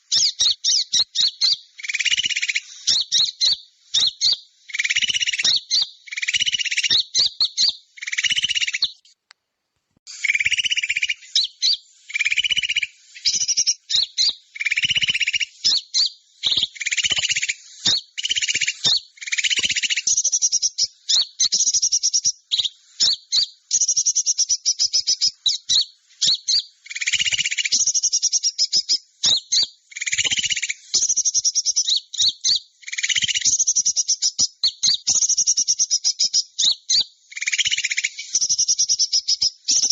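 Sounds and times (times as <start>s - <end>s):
songbirds chattering trills and chirps: 0.0s - 9.2s, 10.1s - 39.9s.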